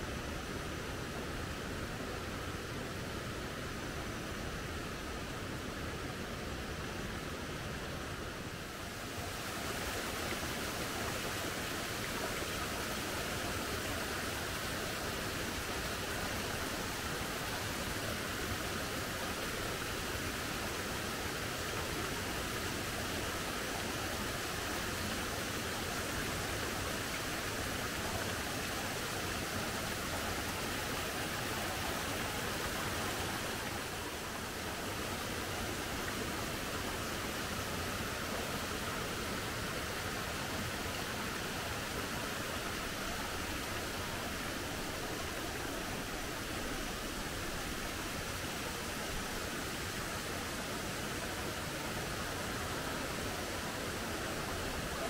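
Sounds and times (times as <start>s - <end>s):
rushing river water: 0.0s - 55.0s.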